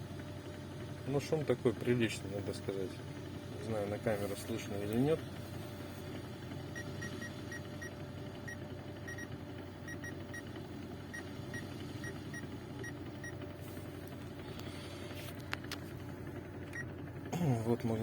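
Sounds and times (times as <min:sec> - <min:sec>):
engine and gearbox droning: 0:00.0 - 0:18.0.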